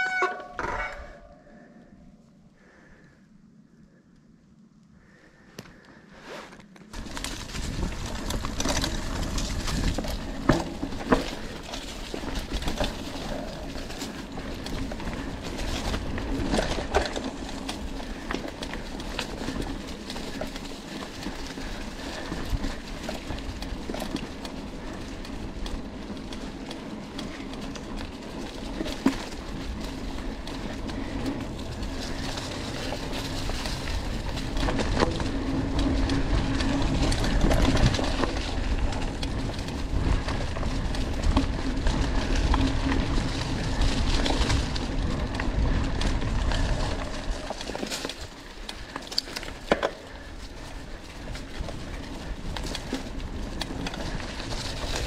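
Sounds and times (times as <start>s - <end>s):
bike rattle: 0.0s - 1.7s, 6.5s - 55.0s
bike tyre noise on trail: 0.0s - 55.0s.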